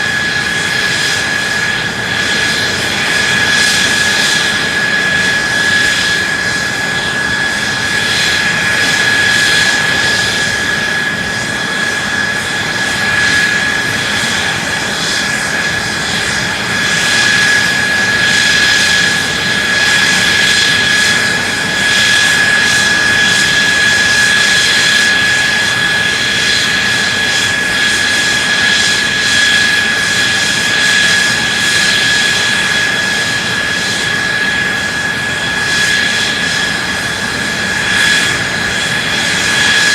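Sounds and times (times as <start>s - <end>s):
jet engine running with whine: 0.0s - 39.9s.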